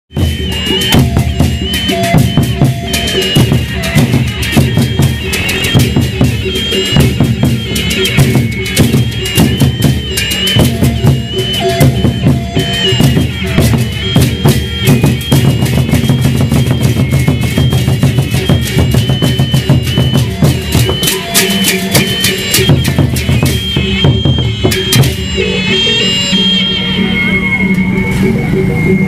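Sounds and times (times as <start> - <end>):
drums beaten in fast rhythm: 0.1 - 29.0
high wind instrument melody: 0.1 - 29.0
metallic percussion: 0.1 - 29.0.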